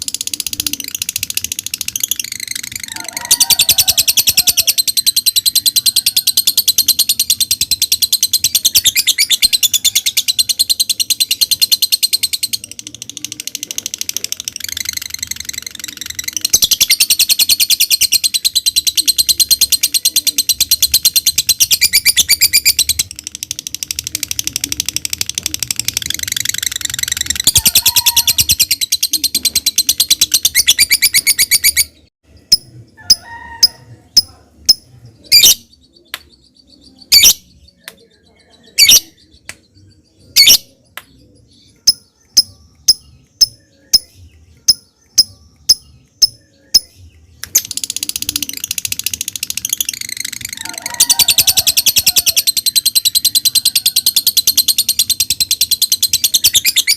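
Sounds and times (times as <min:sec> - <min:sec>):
bird chattering song: 0:00.0 - 0:56.9
bird chirps: 0:00.0 - 0:56.9.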